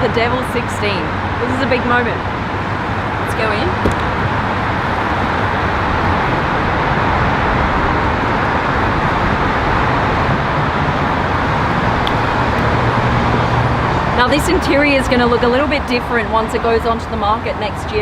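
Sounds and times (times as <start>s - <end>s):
road traffic roar: 0.0s - 18.0s.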